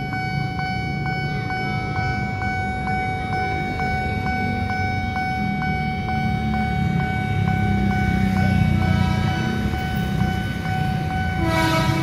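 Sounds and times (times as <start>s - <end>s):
level crossing warning alarm: 0.0s - 12.0s
motorcycles and cars rumbling: 0.0s - 12.0s.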